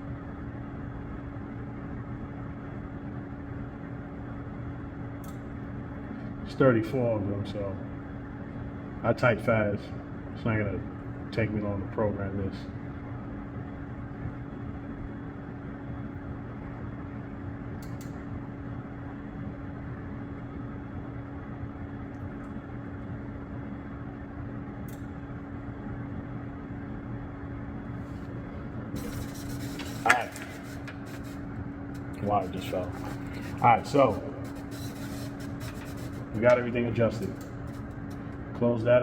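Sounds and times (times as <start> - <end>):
machine hum with low drone: 0.0 - 39.0.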